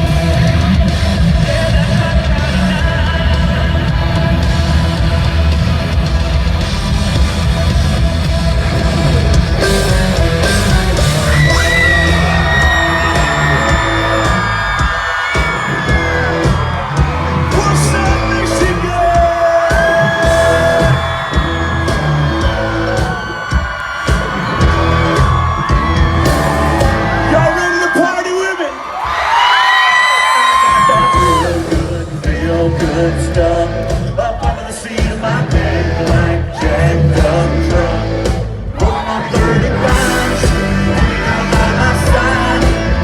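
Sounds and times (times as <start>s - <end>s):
band playing country rock: 0.0s - 28.2s, 30.5s - 43.0s
crowd yelling and cheering: 0.0s - 43.0s.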